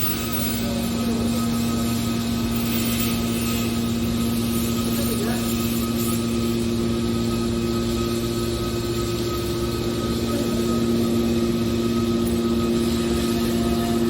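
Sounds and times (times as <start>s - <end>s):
baler machinery humming: 0.0s - 14.0s.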